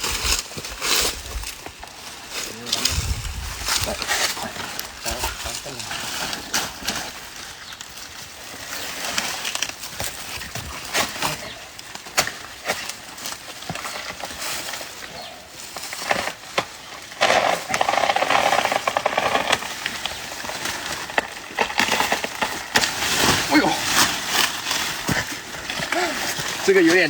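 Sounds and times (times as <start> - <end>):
leaves rustling: 0.0 - 27.0.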